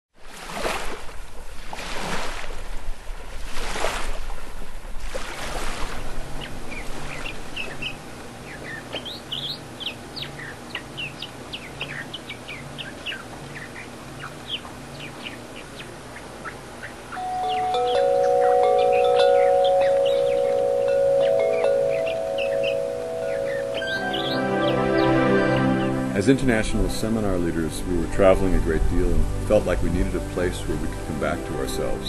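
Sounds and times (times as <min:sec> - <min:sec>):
birds chirping: 0:06.0 - 0:32.0.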